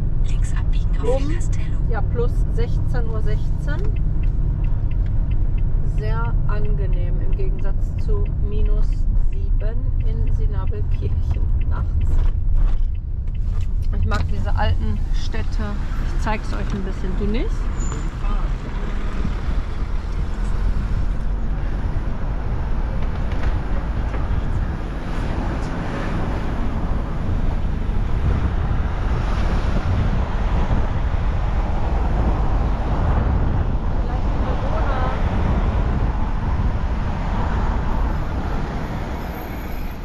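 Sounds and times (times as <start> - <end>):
camper van road and engine rumble: 0.0 - 40.0.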